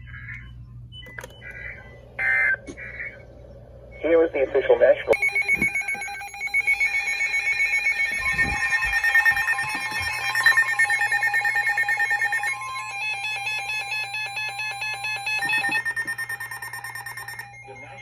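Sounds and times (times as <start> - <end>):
electronic buzzing warble: 1.2 - 18.0.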